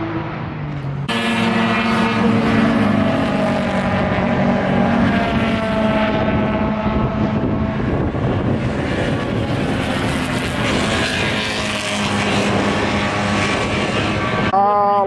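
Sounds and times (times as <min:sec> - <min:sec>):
car engine droning: 0:00.0 - 0:14.6.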